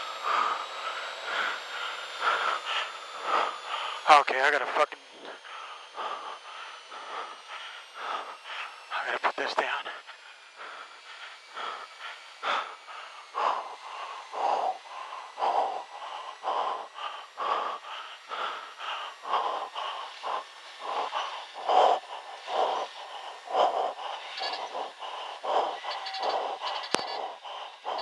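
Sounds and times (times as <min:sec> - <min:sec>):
person breathing hard and fast: 0:00.0 - 0:28.0.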